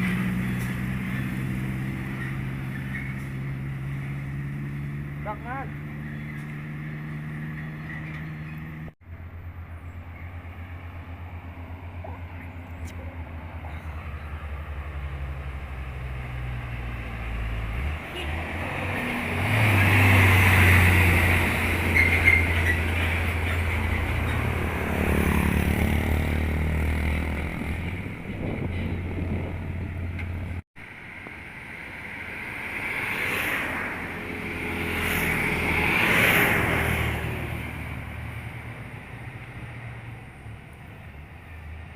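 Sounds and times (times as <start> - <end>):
truck diesel engines: 0.0 - 41.9.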